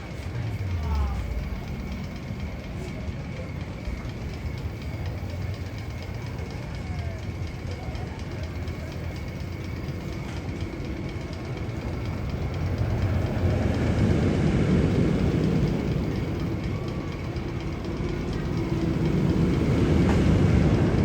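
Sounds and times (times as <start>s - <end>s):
passing train rumble: 0.0s - 21.0s.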